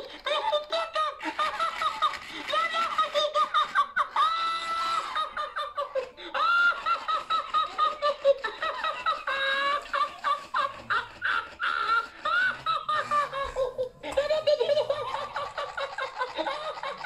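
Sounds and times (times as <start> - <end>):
toy giggling in high voice: 0.0 - 17.0.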